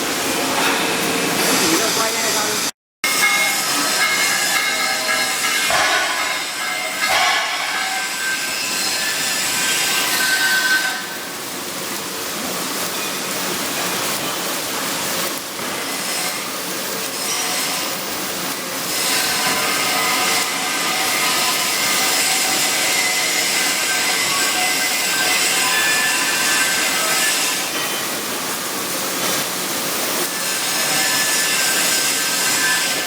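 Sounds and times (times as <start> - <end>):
arc welding hiss and crackle: 0.0 - 33.0.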